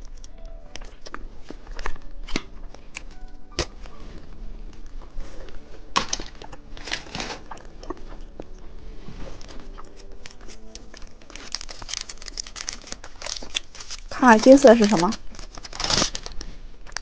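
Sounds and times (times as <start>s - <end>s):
plastic wrapper crinkling and tearing: 0.0s - 8.7s, 9.4s - 17.0s.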